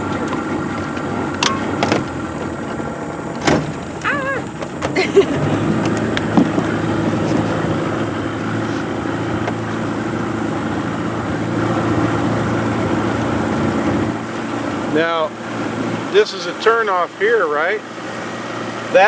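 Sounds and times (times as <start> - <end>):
boat outboard motor running: 0.0 - 19.0.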